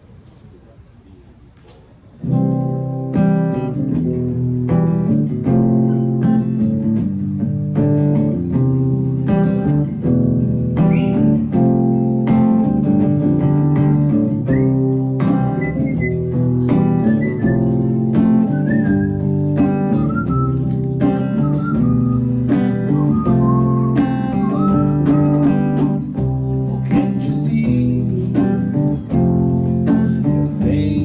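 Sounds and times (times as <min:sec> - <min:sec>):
strummed guitar chords: 0:02.2 - 0:31.0.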